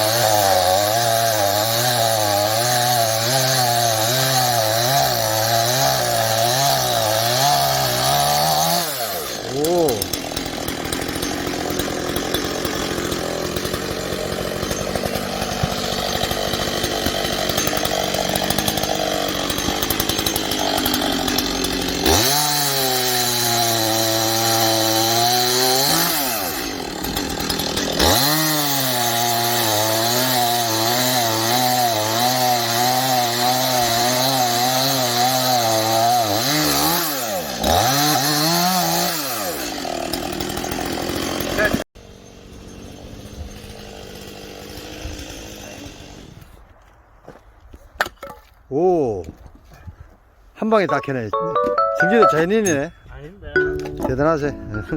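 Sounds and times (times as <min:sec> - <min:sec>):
chainsaw revving and cutting wood: 0:00.0 - 0:46.6.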